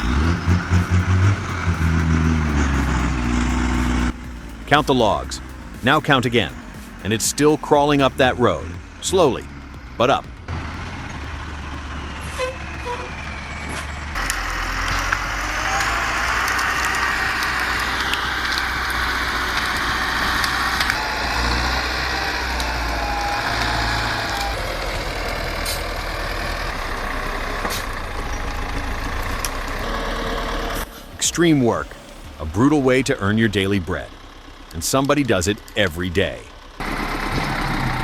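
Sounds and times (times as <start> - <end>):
heavy truck engine running: 0.0 - 38.0.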